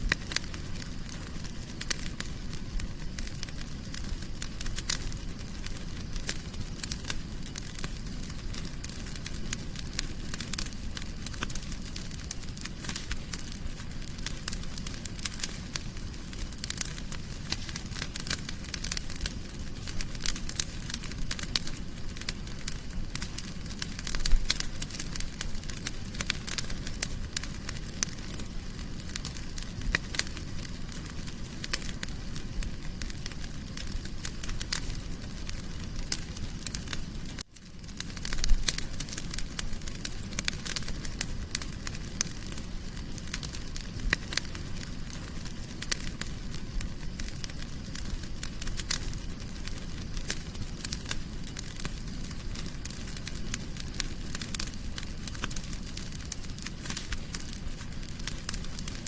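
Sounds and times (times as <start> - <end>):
wood fire crackling in fireplace: 0.0 - 59.0.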